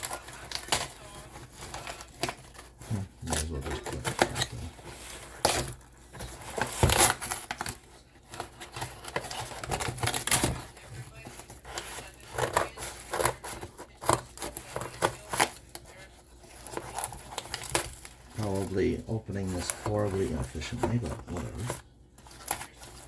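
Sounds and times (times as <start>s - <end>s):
packaging rustling and tearing: 0.0s - 23.0s.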